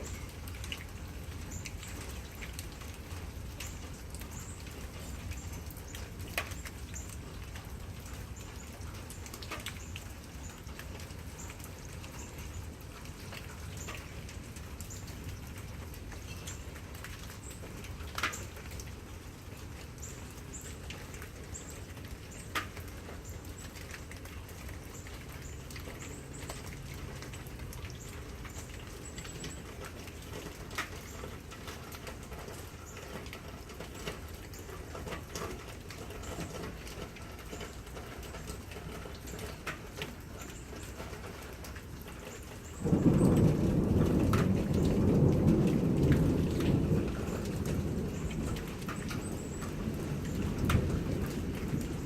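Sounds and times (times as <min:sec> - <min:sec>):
light rain hissing: 0:00.0 - 0:52.0
raindrops dripping and pattering: 0:00.0 - 0:52.0.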